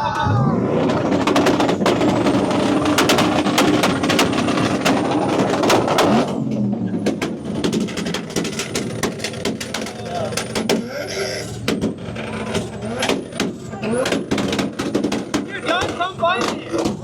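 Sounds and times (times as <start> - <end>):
car engine revving with pops: 0.9 - 17.0.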